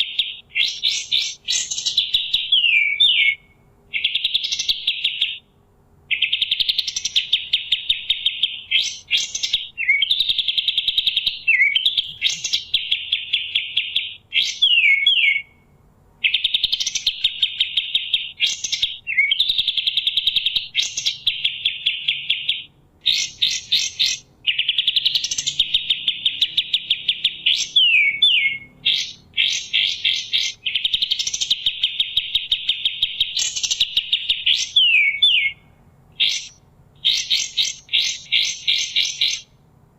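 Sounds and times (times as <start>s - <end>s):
songbird singing trilled phrases: 0.0s - 39.6s.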